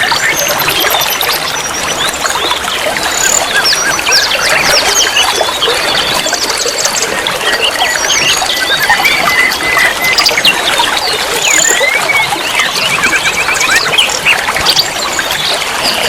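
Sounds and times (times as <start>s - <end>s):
songbirds chirping and trilling: 0.0s - 16.0s
trickle of running water: 0.0s - 16.0s.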